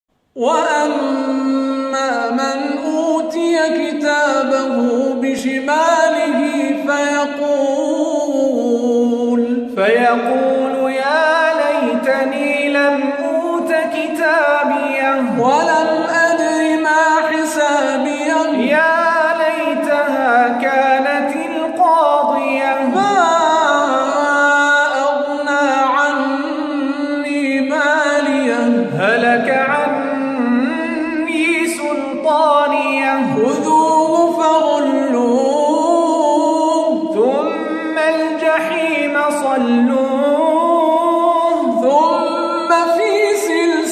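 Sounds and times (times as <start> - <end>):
person reciting melodically: 0.3 - 43.9.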